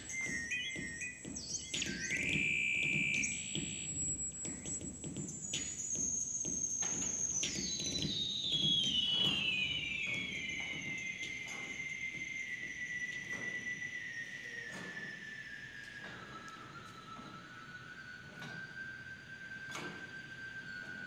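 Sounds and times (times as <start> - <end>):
high whistling tone: 0.0 - 21.0.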